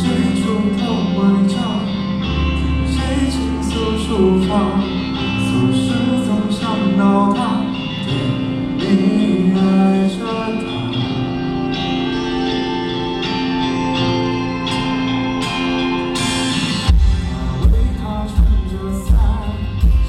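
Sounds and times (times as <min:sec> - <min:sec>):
person singing: 0:00.0 - 0:13.6, 0:16.8 - 0:20.0
live band music: 0:00.0 - 0:20.0.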